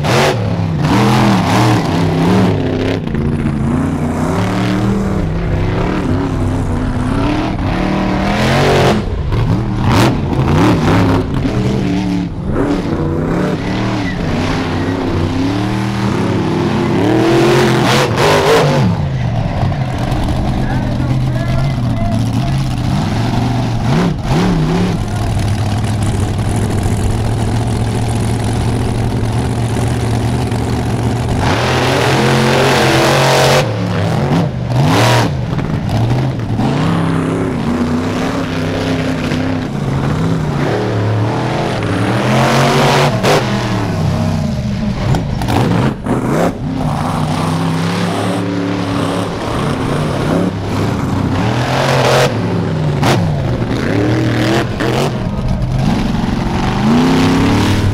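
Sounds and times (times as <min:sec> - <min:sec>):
monster truck engines revving: 0:00.0 - 0:57.9.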